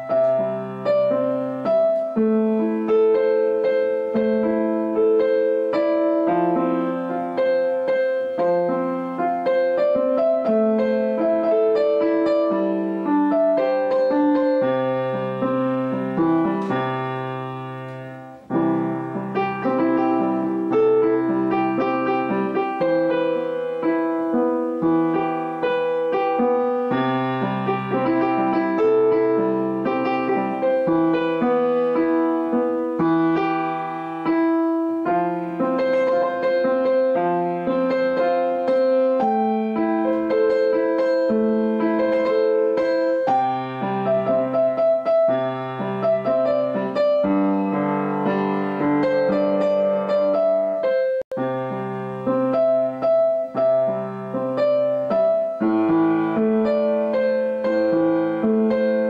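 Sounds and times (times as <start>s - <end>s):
solo piano music: 0.0s - 59.0s.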